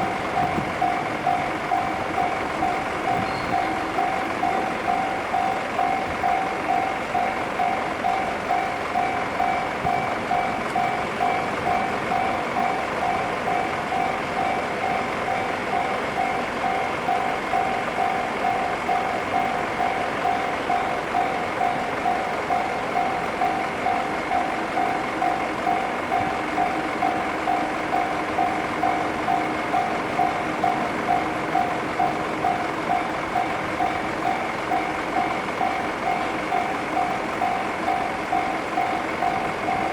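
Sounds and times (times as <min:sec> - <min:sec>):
level crossing warning bell: 0:00.0 - 0:39.9.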